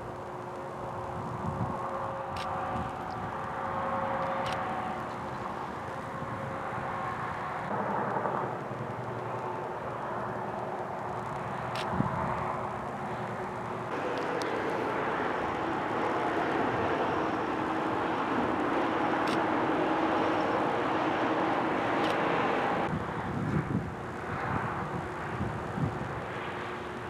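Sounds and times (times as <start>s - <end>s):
heavy rain: 0.0s - 27.0s
wind roaring: 0.0s - 27.0s.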